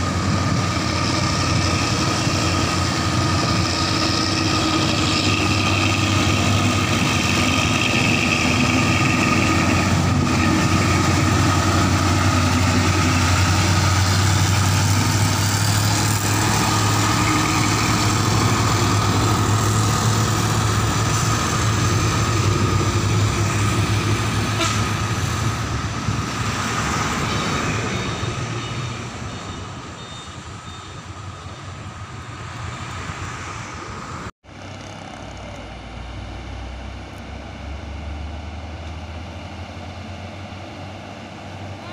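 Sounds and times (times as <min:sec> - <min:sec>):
dump truck diesel engines: 0:00.0 - 0:41.9.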